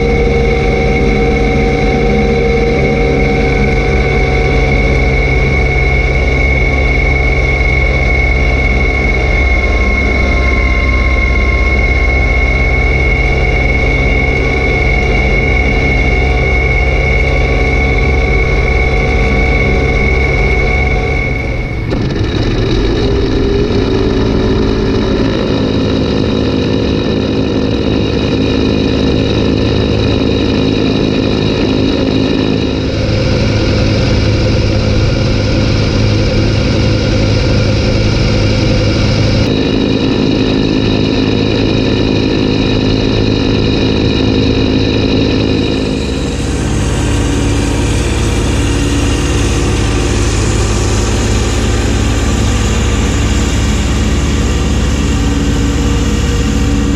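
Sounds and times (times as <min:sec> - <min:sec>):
tractor diesel engine under load: 0:00.0 - 0:56.9.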